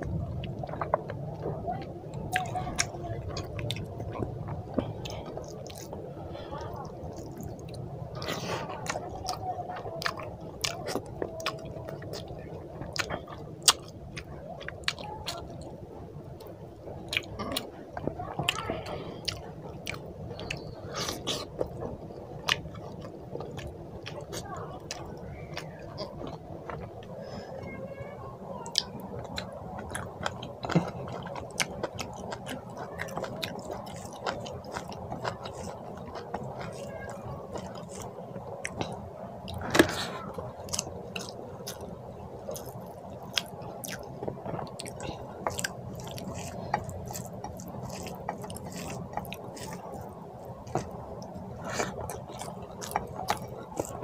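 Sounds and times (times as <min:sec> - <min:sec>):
wet chewing: 0:00.0 - 0:15.8, 0:16.4 - 0:27.4, 0:28.7 - 0:54.0.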